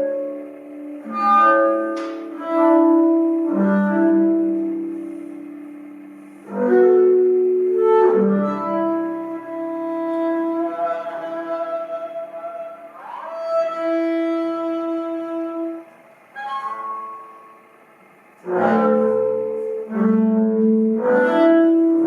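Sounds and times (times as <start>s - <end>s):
slow instrumental music: 0.0s - 22.0s.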